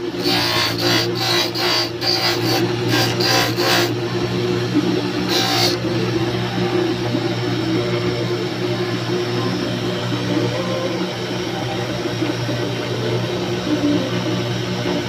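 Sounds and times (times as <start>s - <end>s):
electric motor hum and whir: 0.0s - 15.0s.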